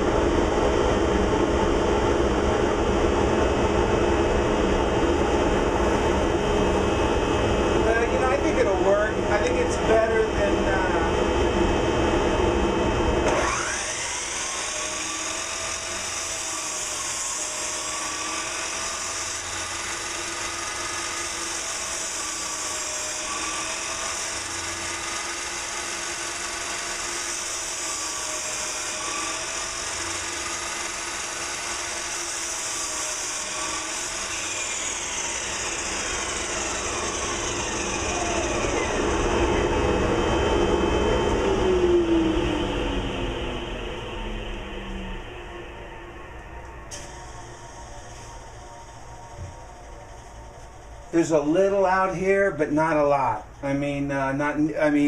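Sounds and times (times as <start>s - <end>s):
motor winding down: 0.0s - 52.2s
dust collector whooshing hum: 0.0s - 55.0s
motor whine coasting down: 0.0s - 55.0s.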